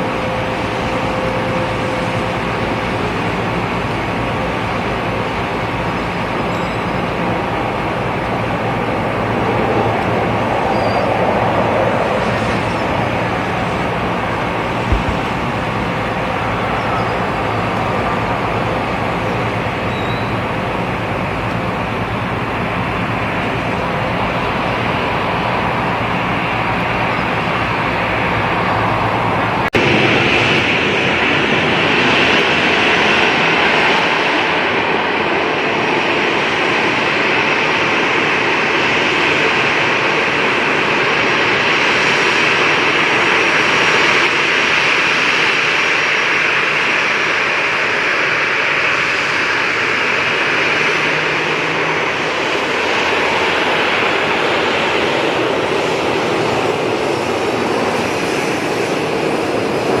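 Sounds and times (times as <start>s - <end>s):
jet engines roaring: 0.0s - 60.0s.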